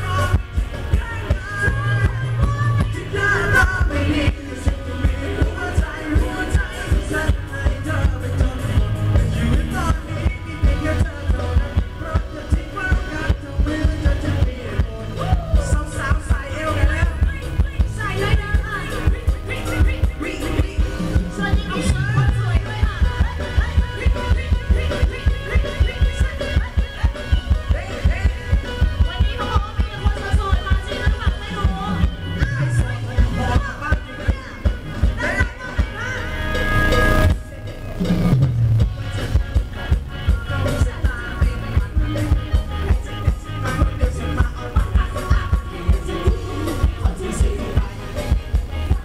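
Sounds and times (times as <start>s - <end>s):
fast drum and bass beat: 0.0s - 49.0s
live dance band over loudspeakers: 0.0s - 49.0s
person singing: 0.0s - 49.0s.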